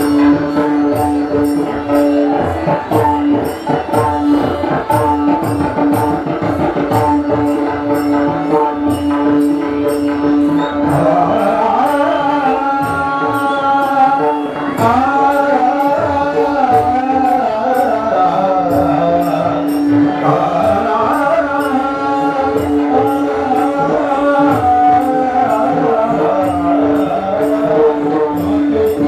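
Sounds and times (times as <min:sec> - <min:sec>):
metal jingling percussion: 0:00.0 - 0:29.0.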